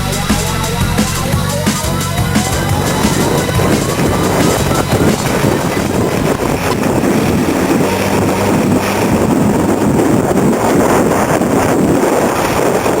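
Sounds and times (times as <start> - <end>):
off-road vehicle engine: 0.0 - 13.0
rush of noise: 0.0 - 13.0.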